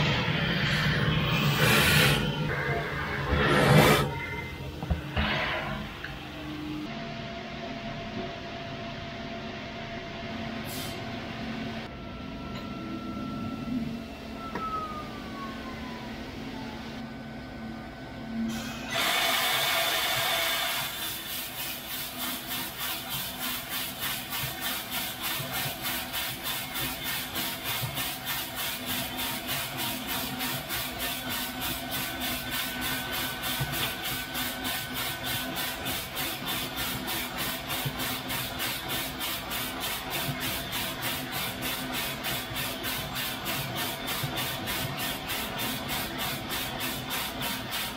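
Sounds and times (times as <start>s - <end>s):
roaster machine hum: 0.0s - 47.9s.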